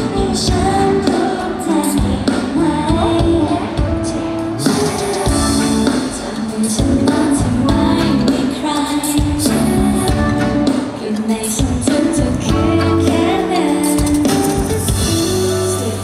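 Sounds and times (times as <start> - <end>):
pop band with drums and guitars: 0.0 - 16.0
women singing: 0.0 - 16.0.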